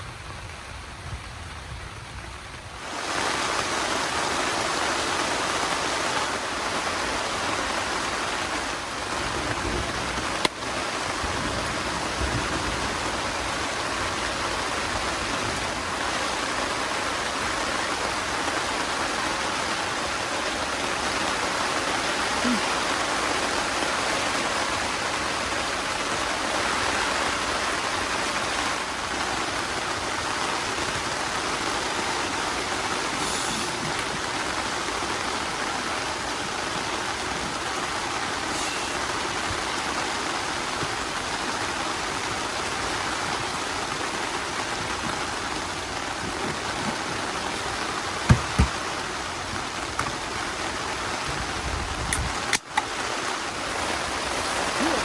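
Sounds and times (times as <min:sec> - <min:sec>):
rushing water hiss: 0:00.0 - 0:55.0.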